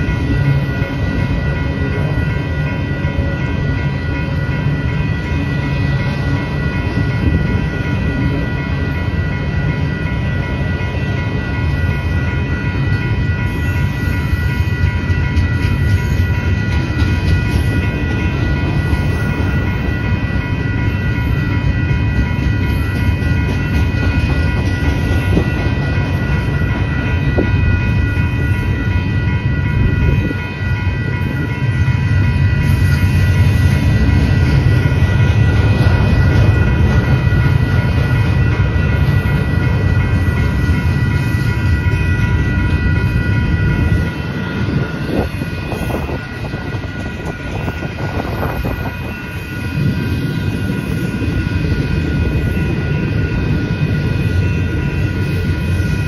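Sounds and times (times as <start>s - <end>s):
crossing warning bell ringing: 0.0s - 56.0s
freight train rumble and wheel clatter: 0.0s - 56.0s.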